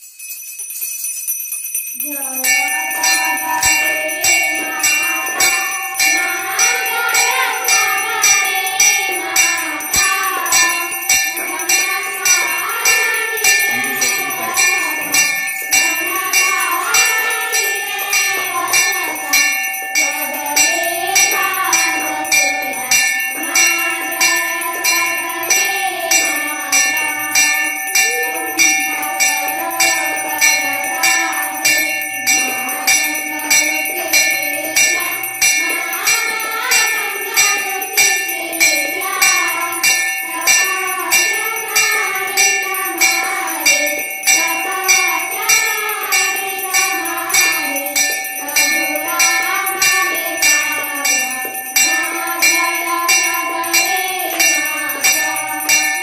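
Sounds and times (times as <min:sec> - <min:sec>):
bell struck rhythmically: 0:00.0 - 0:56.0
girls singing a hymn: 0:02.0 - 0:56.0.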